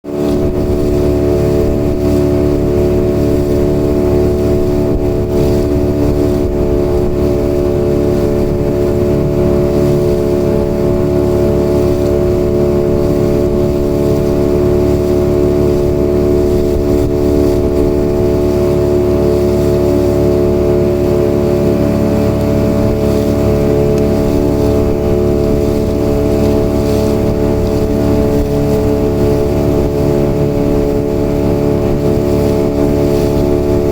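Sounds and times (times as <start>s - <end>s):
outboard motor droning: 0.0s - 33.9s.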